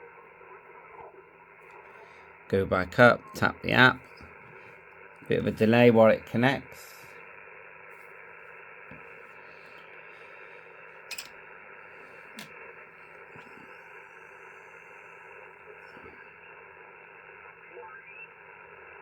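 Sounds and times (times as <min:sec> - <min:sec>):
radio receiver hiss: 0:00.0 - 0:19.0.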